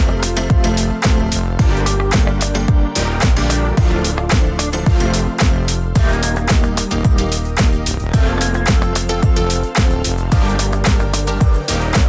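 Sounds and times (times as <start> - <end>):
deep kick drum: 0.0 - 12.0
electronic dance music: 0.0 - 12.0.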